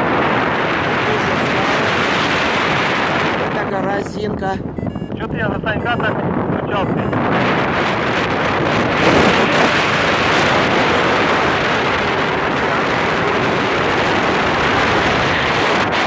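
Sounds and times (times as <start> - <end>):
air buffeting microphone: 0.0 - 16.0.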